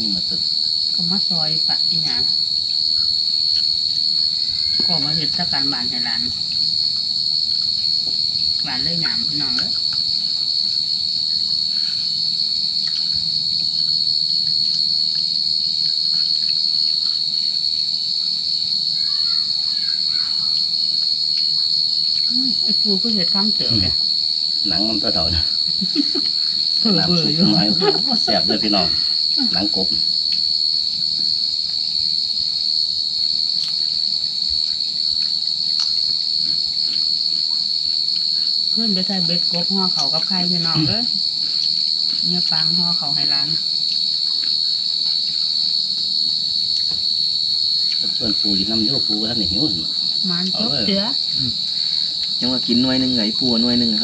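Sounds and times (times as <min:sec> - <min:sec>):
insects shrilling: 0:00.0 - 0:54.0.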